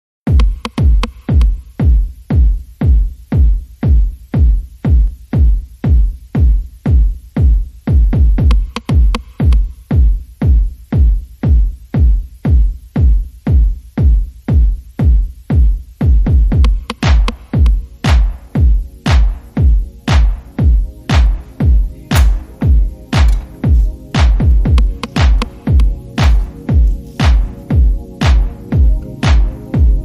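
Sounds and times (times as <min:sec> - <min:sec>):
electronic music with kick drum: 0:00.2 - 0:30.0.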